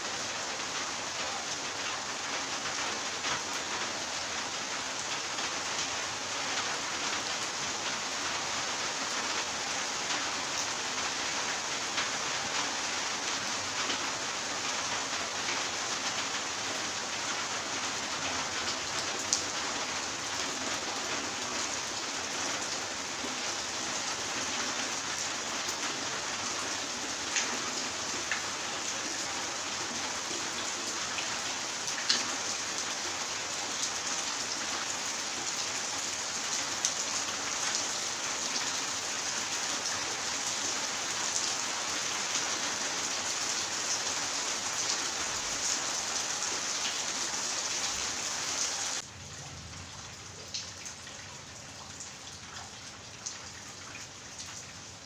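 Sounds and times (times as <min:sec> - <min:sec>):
rain on tiled patio: 0:00.0 - 0:55.0.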